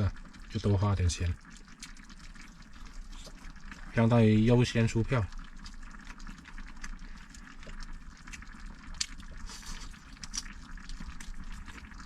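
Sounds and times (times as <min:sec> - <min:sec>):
pot simmering and bubbling: 0:00.0 - 0:12.0.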